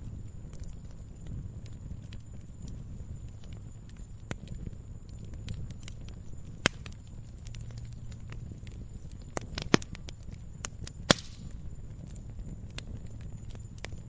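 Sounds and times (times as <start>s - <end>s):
fire crackling and popping: 0.0s - 14.0s
firewood burning with low rush: 0.0s - 14.0s.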